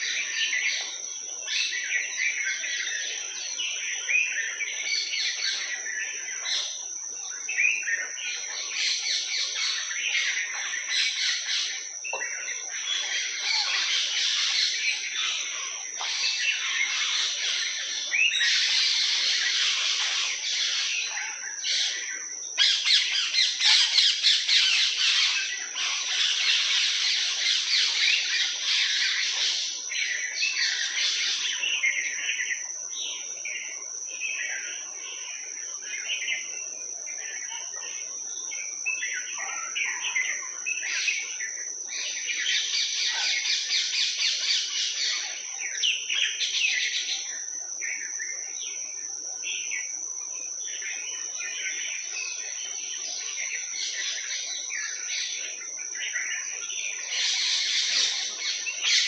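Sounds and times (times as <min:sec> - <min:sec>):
birds chirping and chattering: 0:00.0 - 0:59.0.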